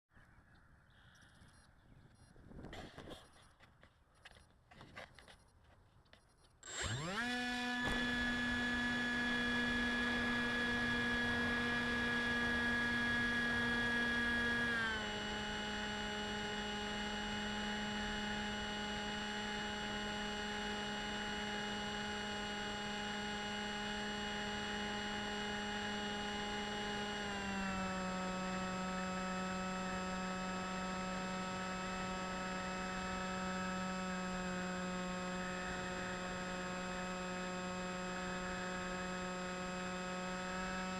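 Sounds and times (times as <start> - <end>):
model aircraft motor whining: 6.6 - 40.9.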